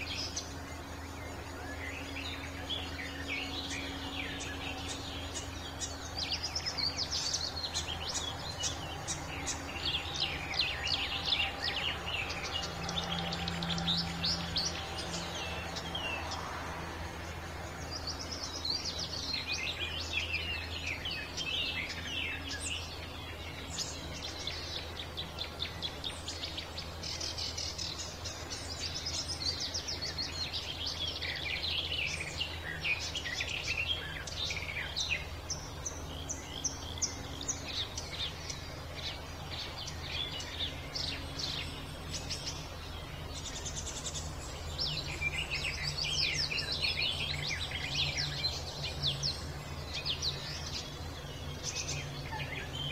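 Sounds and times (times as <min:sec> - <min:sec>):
steady low hum: 0:00.0 - 0:52.9
warbler singing: 0:00.0 - 0:52.9.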